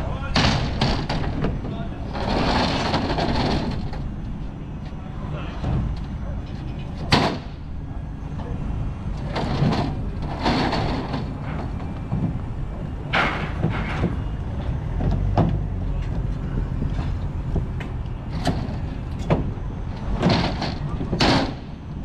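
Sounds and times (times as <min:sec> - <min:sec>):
metal clanks and bangs: 0:00.2 - 0:04.2, 0:05.6 - 0:07.8, 0:08.4 - 0:21.9
vehicle engine running: 0:01.3 - 0:22.0.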